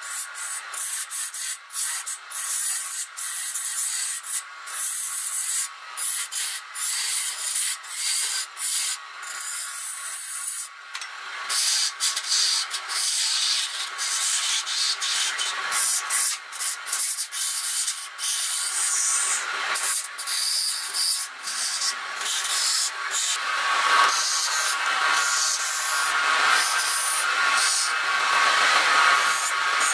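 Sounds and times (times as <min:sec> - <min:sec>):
lathe tool scraping wood: 0:00.0 - 0:10.7, 0:11.4 - 0:29.9.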